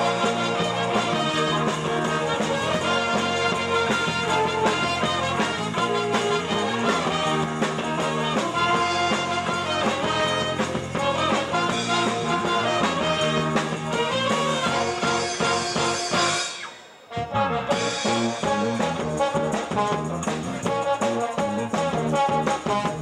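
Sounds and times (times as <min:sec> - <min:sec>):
big band brass playing: 0:00.0 - 0:23.0.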